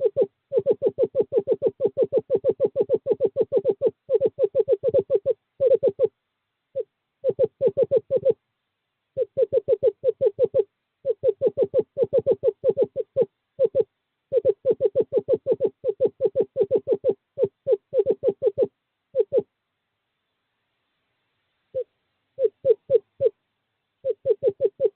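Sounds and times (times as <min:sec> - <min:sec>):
owl hooting: 0:00.0 - 0:08.4, 0:09.1 - 0:19.5, 0:21.7 - 0:23.4, 0:24.0 - 0:24.9.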